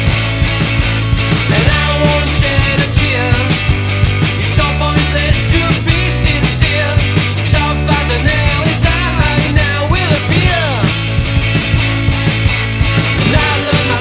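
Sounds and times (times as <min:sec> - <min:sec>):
bass guitar: 0:00.0 - 0:14.0
drum hits: 0:00.0 - 0:14.0
electric guitar: 0:00.0 - 0:14.0.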